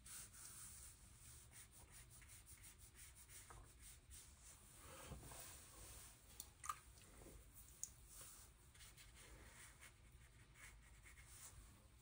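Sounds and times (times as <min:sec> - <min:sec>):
brush strokes on paper: 0:00.0 - 0:06.2, 0:08.0 - 0:12.0.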